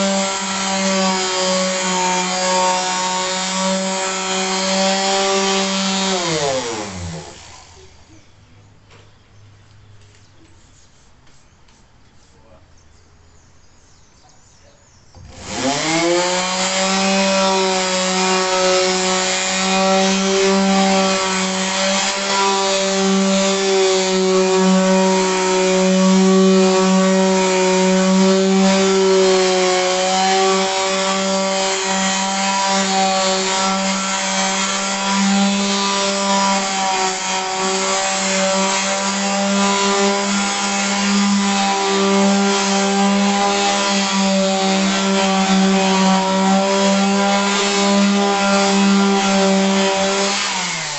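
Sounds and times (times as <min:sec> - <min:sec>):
electric sander running: 0:00.0 - 0:08.1, 0:15.2 - 0:50.9.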